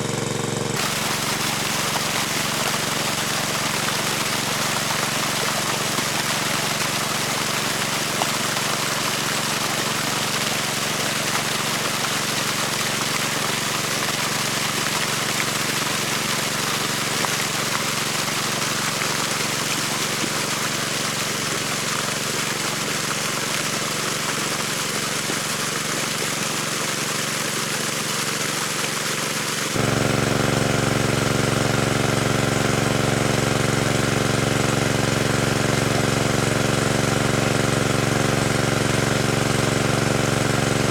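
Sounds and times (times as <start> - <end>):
engine running: 0.0 - 28.4, 29.7 - 40.9.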